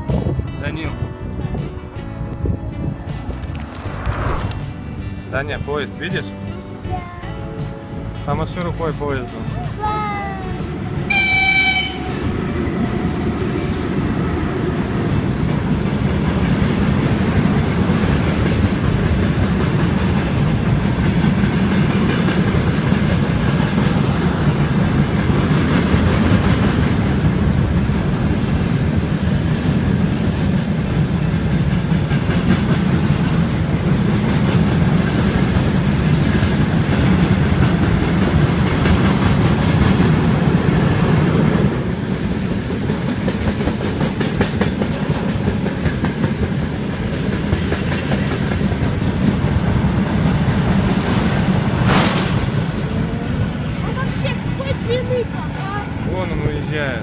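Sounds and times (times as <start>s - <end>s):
freight train wheels on rail: 0.0s - 6.4s, 7.2s - 57.0s.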